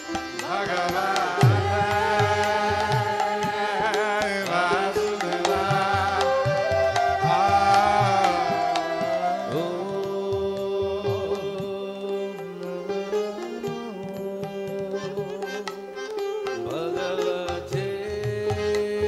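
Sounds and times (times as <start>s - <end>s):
voices singing a chant: 0.0s - 15.7s
harmonium drone: 0.0s - 19.0s
sitar: 0.0s - 19.0s.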